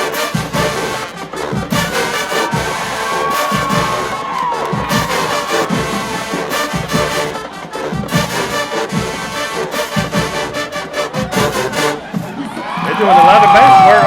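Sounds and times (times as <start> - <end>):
brass sustaining chords: 0.0 - 14.0.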